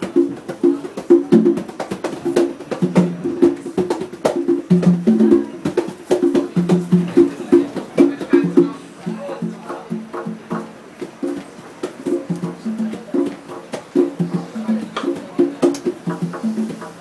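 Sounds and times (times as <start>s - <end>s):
congas played by hand: 0.0s - 17.0s.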